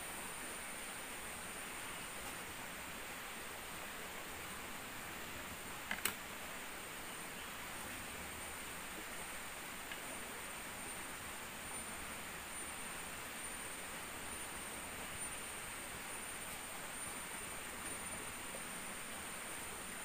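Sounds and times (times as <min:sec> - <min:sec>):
even hiss: 0:00.0 - 0:20.0
insect high drone: 0:00.0 - 0:20.0.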